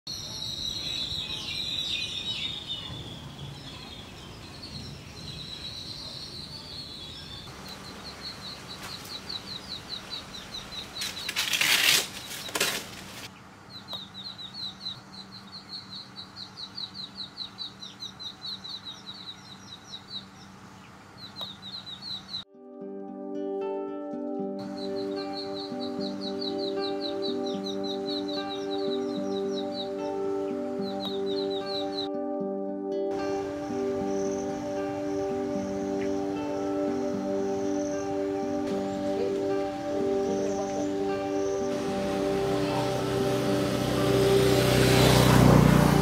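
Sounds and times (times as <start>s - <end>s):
small birds chirping: 0.1s - 22.5s, 24.6s - 32.2s, 33.2s - 46.0s.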